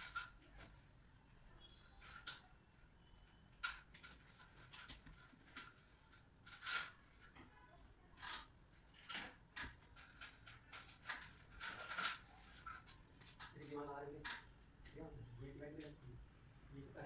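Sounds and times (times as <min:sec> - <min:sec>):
faint clicks and scrapes on metal: 0:00.0 - 0:15.0.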